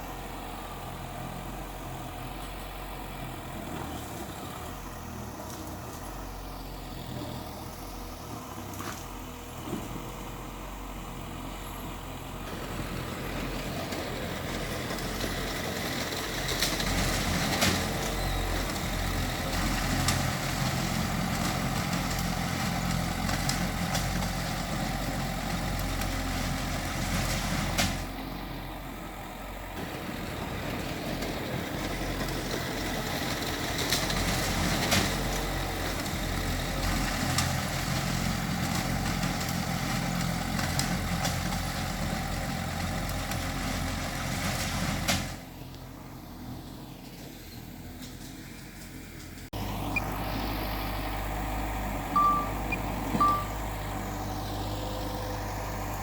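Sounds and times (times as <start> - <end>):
heavy diesel machine running: 0.0 - 56.0.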